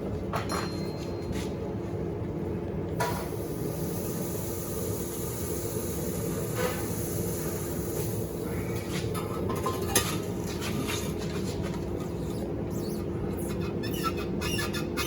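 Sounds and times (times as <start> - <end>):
shop machinery humming: 0.0 - 15.0.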